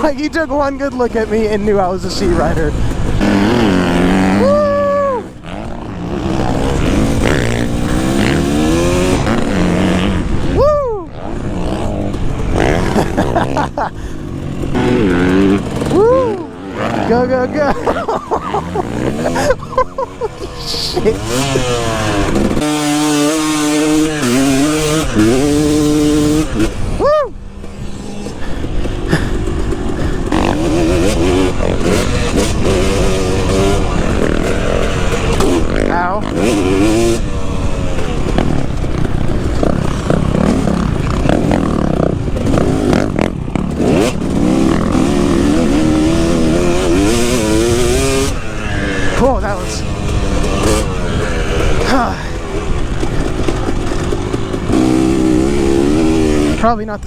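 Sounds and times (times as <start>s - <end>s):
dirt bike engine revving high: 0.0s - 57.0s.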